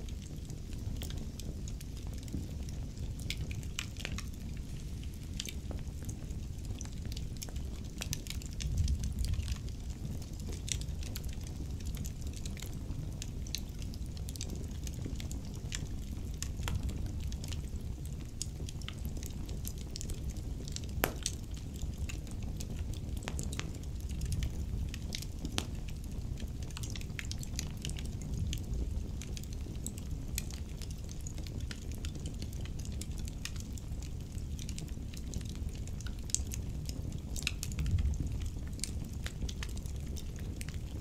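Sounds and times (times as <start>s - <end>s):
logs crackling in a fireplace: 0.0s - 41.0s
low rumble of flames: 0.0s - 41.0s.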